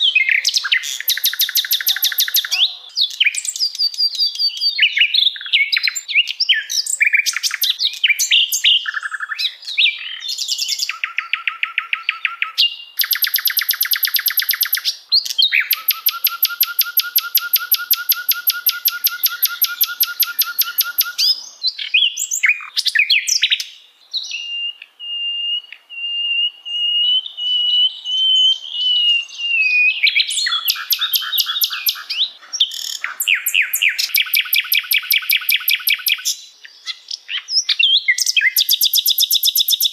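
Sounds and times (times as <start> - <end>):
long wavering bird whistle: 0.0 - 2.6, 3.2 - 23.6, 24.3 - 32.2, 33.2 - 36.4, 38.1 - 39.9
songbird chattering and trills: 0.0 - 39.9.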